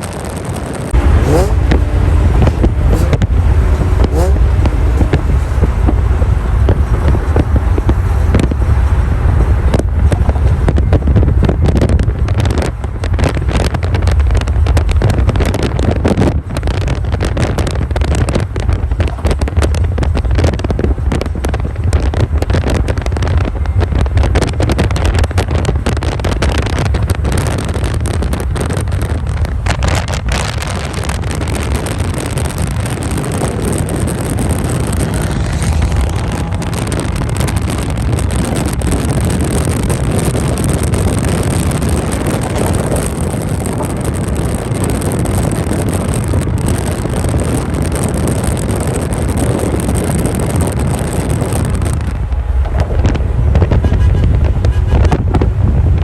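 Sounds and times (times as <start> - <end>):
car rumble: 0.0 - 56.0
wind buffeting microphone: 0.0 - 56.0.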